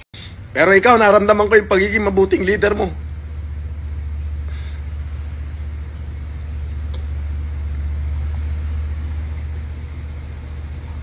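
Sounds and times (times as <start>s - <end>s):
steady low rumble: 0.2s - 11.0s.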